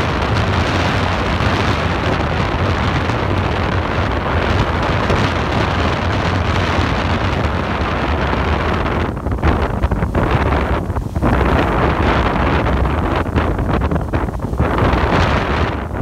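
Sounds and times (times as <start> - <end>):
geyser hissing: 0.0 - 16.0.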